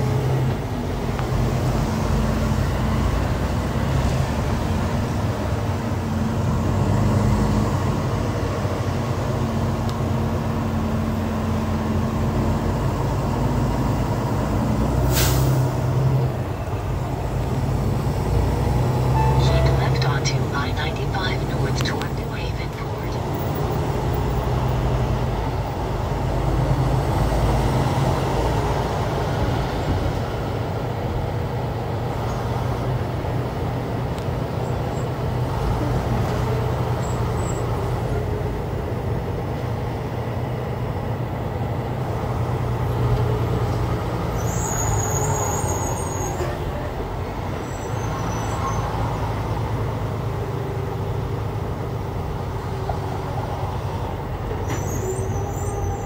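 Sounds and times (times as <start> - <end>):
diesel truck engine drone: 0.0 - 56.0
road noise inside cab: 0.0 - 56.0.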